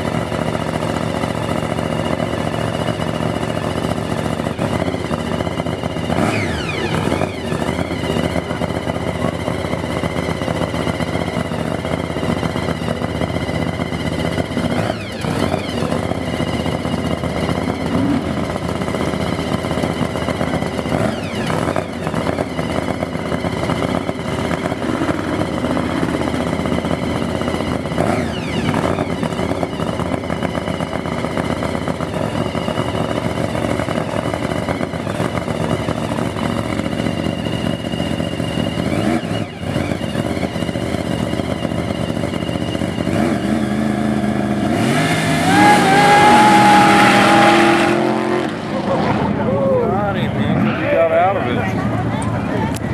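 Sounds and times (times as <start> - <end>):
engine revving: 0.0 - 52.9
hot rod engines running: 0.0 - 52.9.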